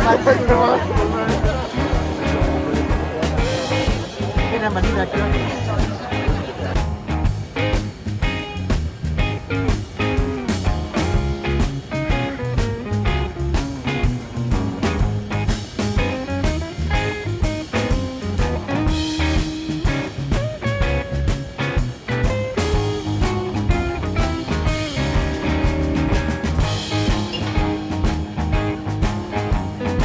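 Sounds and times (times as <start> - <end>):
band music with guitar: 0.0 - 30.0
steady drum beat: 0.0 - 30.0.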